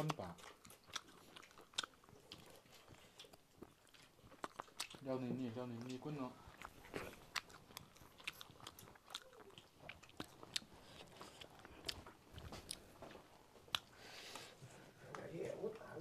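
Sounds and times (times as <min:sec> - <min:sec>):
chewing: 0:00.0 - 0:15.8.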